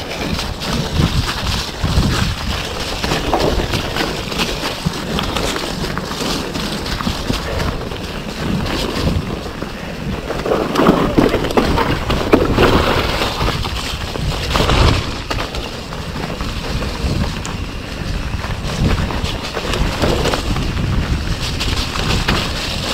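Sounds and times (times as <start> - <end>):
bike rattling and clattering: 0.0 - 22.9
tyres on wet ground: 0.0 - 22.9
wind buffeting microphone: 0.0 - 22.9.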